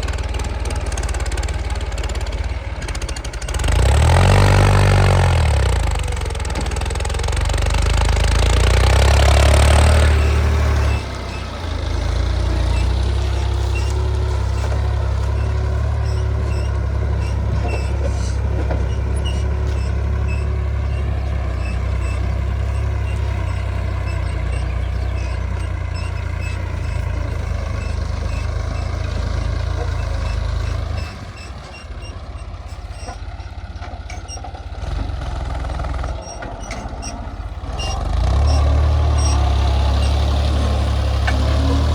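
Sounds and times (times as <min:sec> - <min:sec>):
heavy diesel machinery rumbling: 0:00.0 - 0:41.9.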